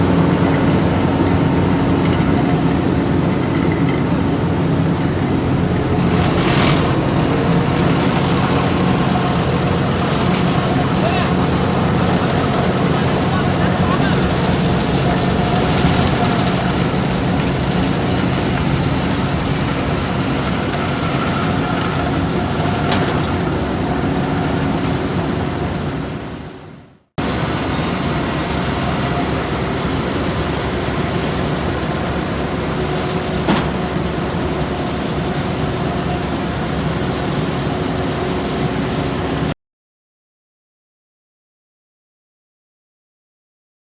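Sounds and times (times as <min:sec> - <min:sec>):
paving machinery engines droning: 0:00.0 - 0:39.6.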